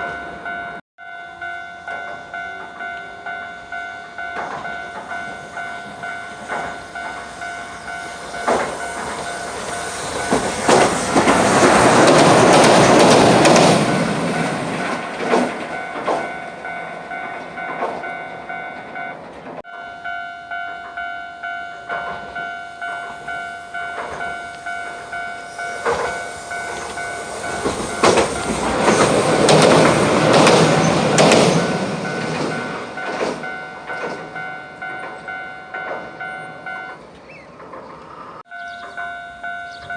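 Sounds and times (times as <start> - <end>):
level-crossing bell clanging: 0.0 - 37.3, 38.4 - 39.9
train wheels on track: 0.0 - 39.9.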